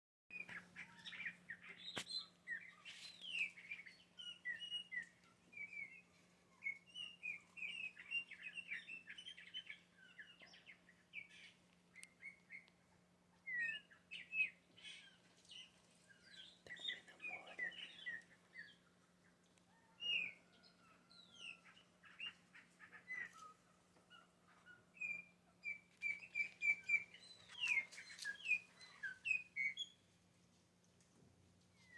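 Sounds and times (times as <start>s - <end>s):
blackbird singing: 0.3s - 12.6s, 13.5s - 19.4s, 20.0s - 23.5s, 25.0s - 30.0s.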